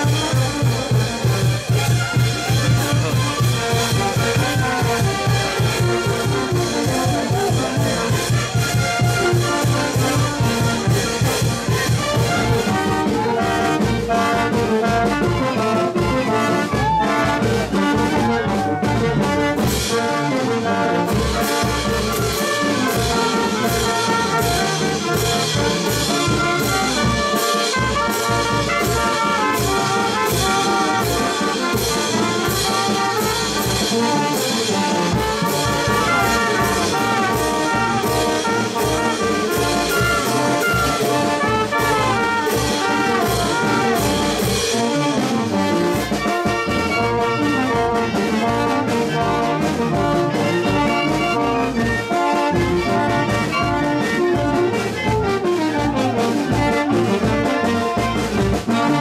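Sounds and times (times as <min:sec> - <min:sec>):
brass band playing dance tune: 0:00.0 - 0:59.0
steady drum beat: 0:00.0 - 0:59.0.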